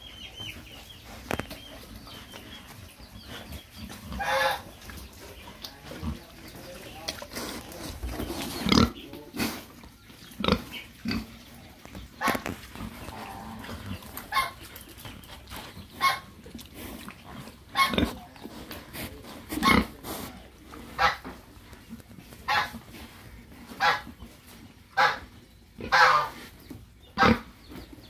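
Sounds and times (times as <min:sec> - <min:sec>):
pigs grunting and snuffling: 0:00.0 - 0:28.0.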